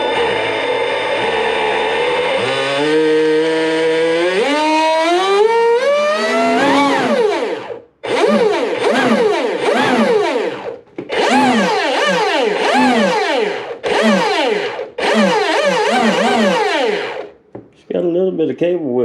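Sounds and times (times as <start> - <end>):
electric motor revving: 0.0 - 17.4.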